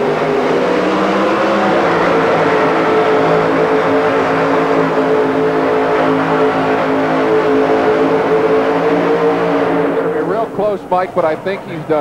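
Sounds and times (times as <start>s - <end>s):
supercharged engine at full power: 0.0s - 12.0s.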